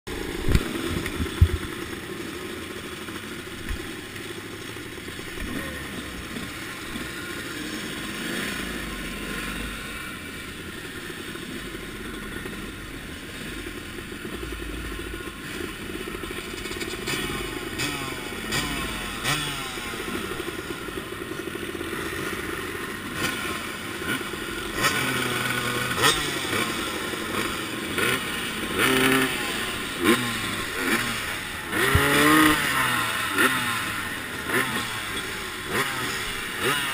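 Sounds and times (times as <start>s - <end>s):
motocross bikes running: 0.1s - 36.9s
motorcycle engine at low speed: 0.1s - 36.9s.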